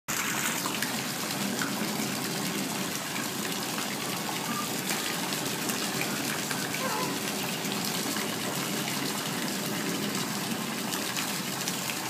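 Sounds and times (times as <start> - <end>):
water rushing and splashing: 0.1 - 12.0.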